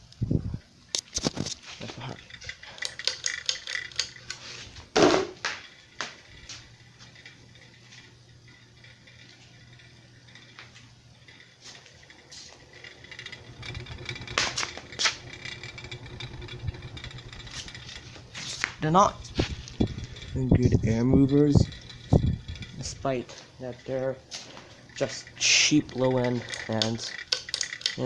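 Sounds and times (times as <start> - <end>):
ceiling fan motor hum: 0.0 - 28.0
fan rattling: 0.0 - 28.0.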